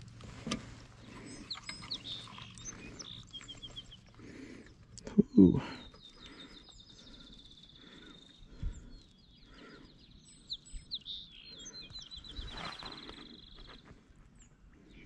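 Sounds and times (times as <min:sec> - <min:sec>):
songbird singing trills: 0:01.0 - 0:15.0.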